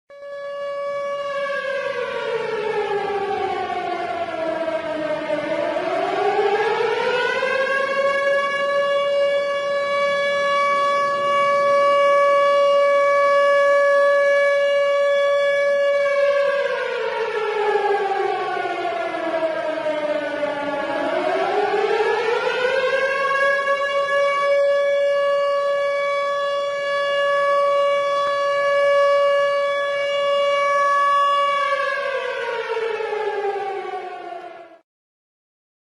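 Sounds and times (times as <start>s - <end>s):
warning siren wailing: 0.1s - 34.8s.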